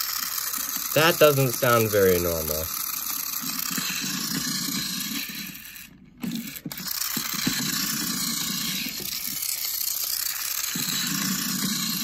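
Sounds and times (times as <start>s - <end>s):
toy train motor running: 0.0s - 12.0s.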